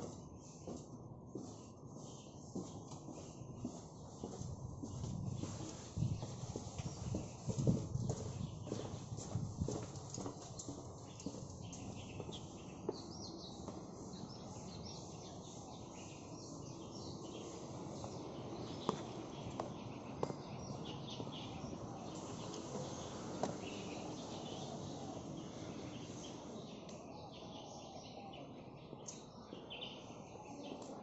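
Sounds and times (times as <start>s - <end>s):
outdoor background noise: 0.0s - 31.0s
small birds chirping: 0.0s - 31.0s.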